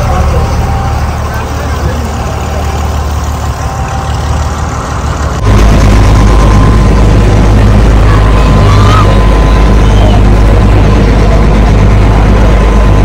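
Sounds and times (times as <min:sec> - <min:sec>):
motor boat engine running: 0:00.0 - 0:13.0.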